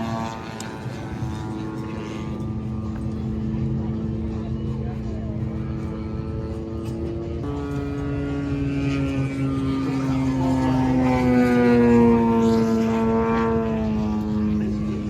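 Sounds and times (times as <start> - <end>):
model airplane motor buzzing: 0.0 - 15.0.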